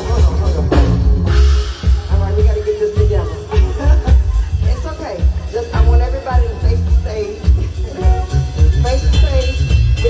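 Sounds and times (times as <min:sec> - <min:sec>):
bass: 0:00.0 - 0:10.0
drum kit: 0:00.0 - 0:10.0.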